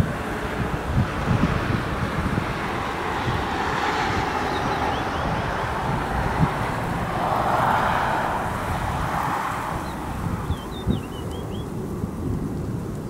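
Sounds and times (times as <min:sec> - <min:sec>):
jet engines running: 0:00.0 - 0:13.0
wind buffeting microphone: 0:00.0 - 0:13.0.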